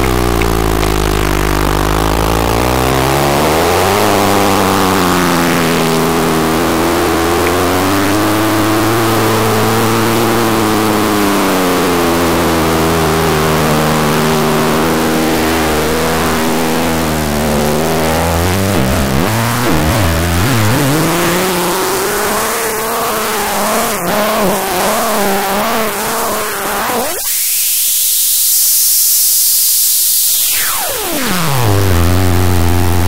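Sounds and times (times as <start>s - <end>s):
buzzing drone gliding in pitch: 0.0s - 33.0s.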